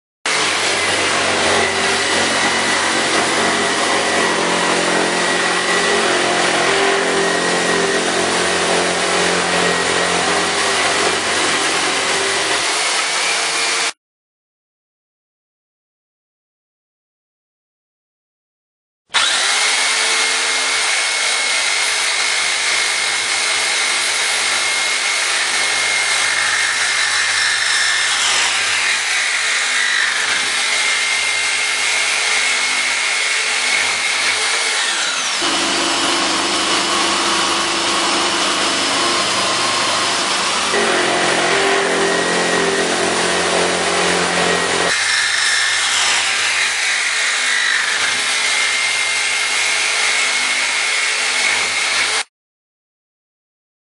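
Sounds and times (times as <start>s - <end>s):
jigsaw cutting metal pipe: 0.3s - 14.0s, 19.1s - 52.3s.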